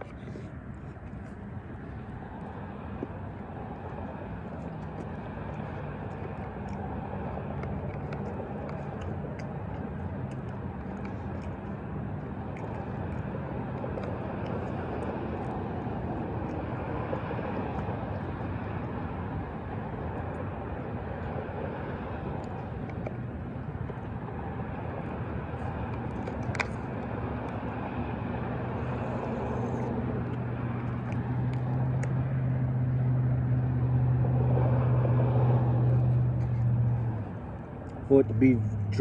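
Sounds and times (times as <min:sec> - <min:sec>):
distant engine rumble: 0:00.0 - 0:39.0.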